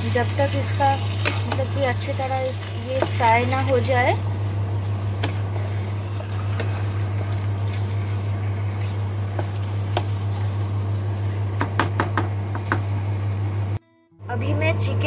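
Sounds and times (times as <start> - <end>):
food sizzling in a pan: 0.0 - 13.8
steady low hum: 0.0 - 15.0.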